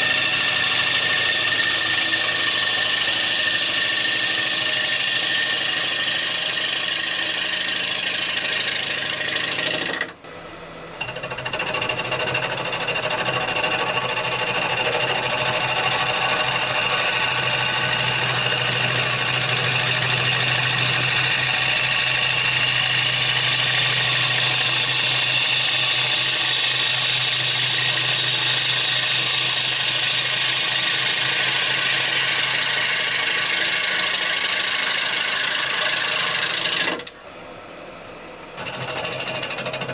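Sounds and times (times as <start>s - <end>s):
wood lathe whirring: 0.0s - 37.2s, 38.6s - 39.9s.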